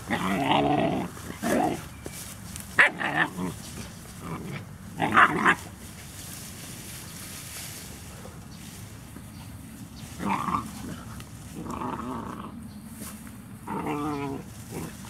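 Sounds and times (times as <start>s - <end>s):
puppies barking and growling: 0.0s - 6.2s, 8.1s - 15.0s.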